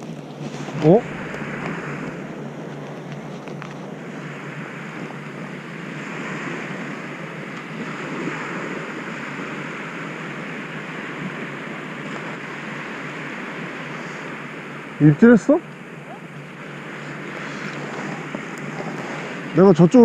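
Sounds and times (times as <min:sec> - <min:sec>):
surf waves breaking on beach: 0:00.0 - 0:20.0
wind on microphone: 0:00.0 - 0:20.0.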